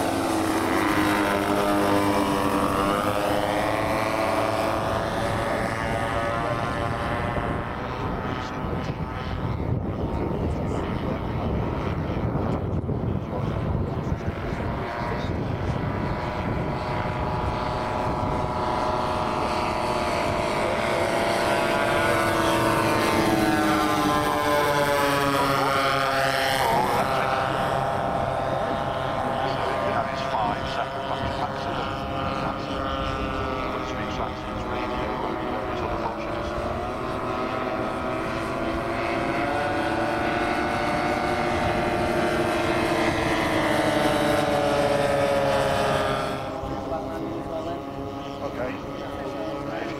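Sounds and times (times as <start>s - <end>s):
model aircraft propeller engines: 0.0s - 49.9s.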